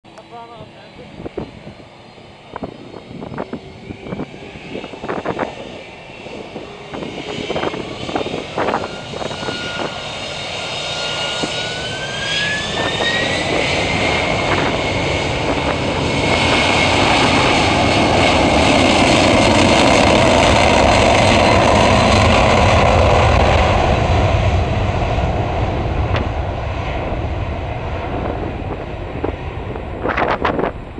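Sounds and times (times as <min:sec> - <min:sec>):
jet airliner taking off: 0:00.1 - 0:30.9.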